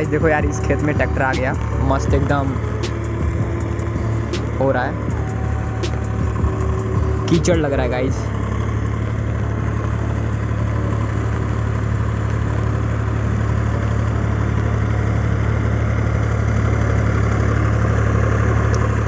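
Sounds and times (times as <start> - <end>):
diesel tractor engine droning: 0.0 - 19.0.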